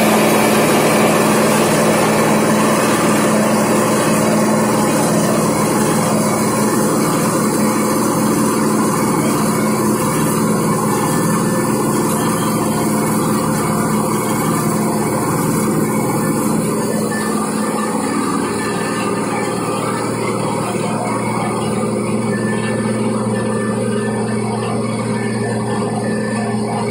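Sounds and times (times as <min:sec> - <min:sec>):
grain pouring from chute: 0:00.0 - 0:24.1
machine hum: 0:00.0 - 0:26.9.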